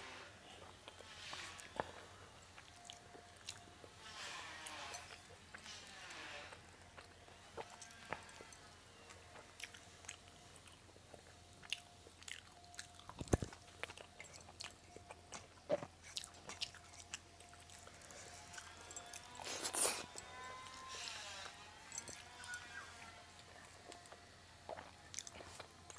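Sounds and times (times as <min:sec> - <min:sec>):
chewing and biting food: 0:00.5 - 0:25.9.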